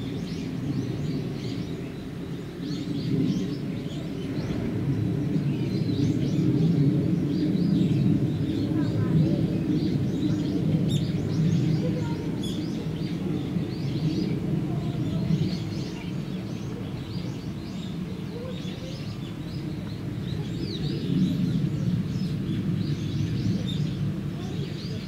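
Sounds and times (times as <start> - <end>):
low outdoor hum: 0.0 - 25.0
small birds chirping: 0.0 - 25.0.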